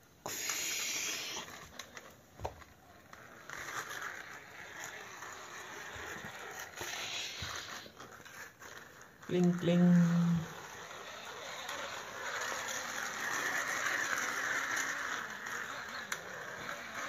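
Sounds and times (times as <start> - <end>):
plastic toy wheels rolling: 0.0 - 17.0.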